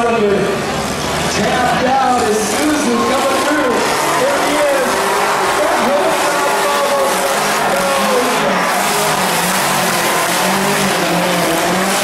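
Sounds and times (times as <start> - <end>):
car engine revving: 0.5 - 12.0.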